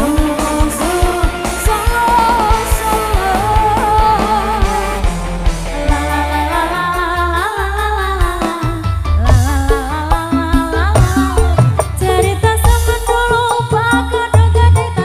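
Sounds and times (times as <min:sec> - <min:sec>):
woman singing: 0:00.0 - 0:05.1, 0:05.8 - 0:15.0
electric guitar lead melody: 0:00.0 - 0:13.8
live band playing: 0:00.0 - 0:15.0.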